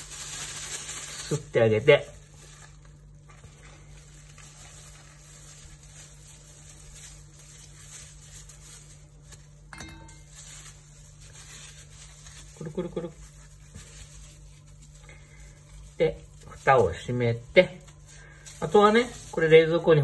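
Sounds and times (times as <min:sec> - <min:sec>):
plastic bag crinkling: 0:00.0 - 0:20.0.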